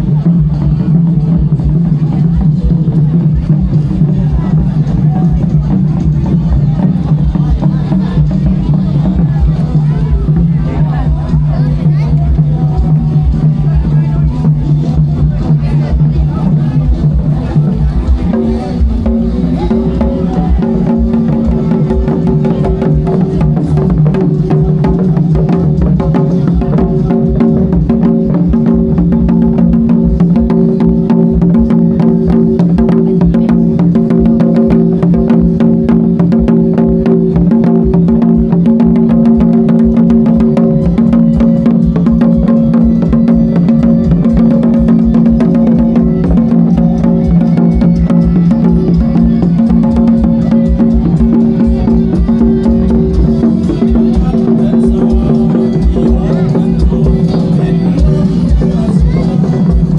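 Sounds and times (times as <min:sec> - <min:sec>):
loud music with fast drumming: 0:00.0 - 0:59.9.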